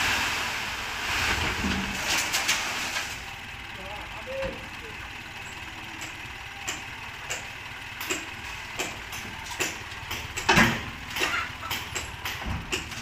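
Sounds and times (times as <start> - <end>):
dump truck engine idling: 0.0 - 13.0.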